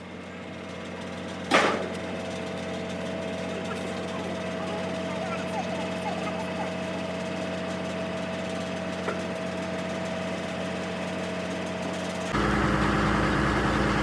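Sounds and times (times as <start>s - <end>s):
loud rough engine: 0.0s - 14.0s
engine idling: 0.4s - 14.0s.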